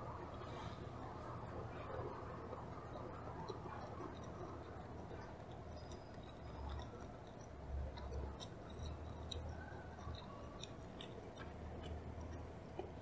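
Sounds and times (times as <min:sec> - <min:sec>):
wet chewing with clicks: 0:00.0 - 0:13.0.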